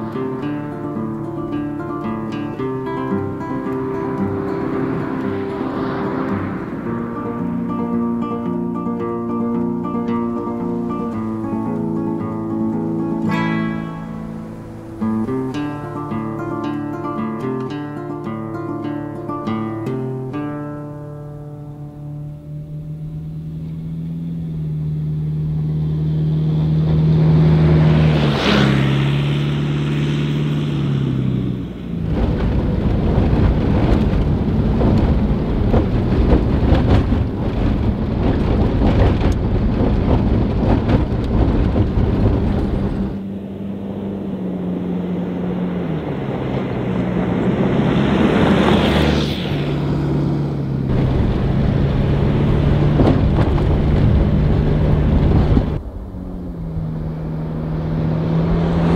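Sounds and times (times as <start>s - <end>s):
engine wind and road rattle: 0.0s - 58.9s
van engine passing by: 0.0s - 58.9s.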